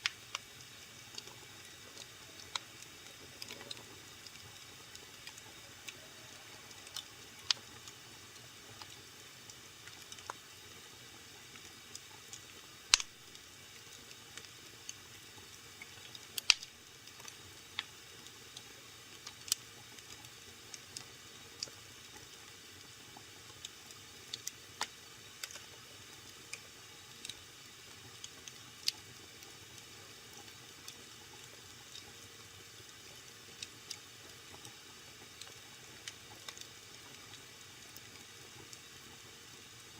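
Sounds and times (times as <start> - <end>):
wood fire crackling and popping: 0.0 - 6.0, 6.7 - 32.2, 33.2 - 38.7.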